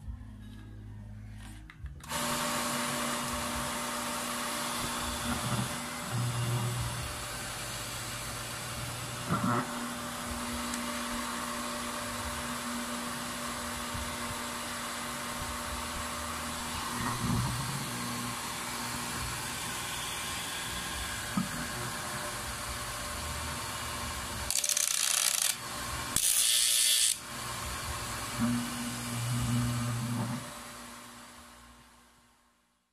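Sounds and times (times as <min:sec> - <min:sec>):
electric pump motor hum: 0:02.0 - 0:32.0.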